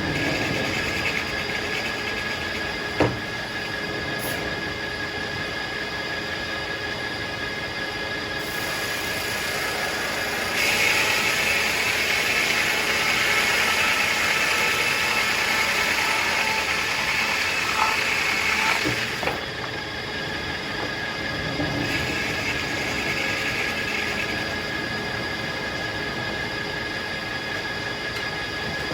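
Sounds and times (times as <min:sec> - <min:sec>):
circular saw blade whining: 0:00.0 - 0:28.9.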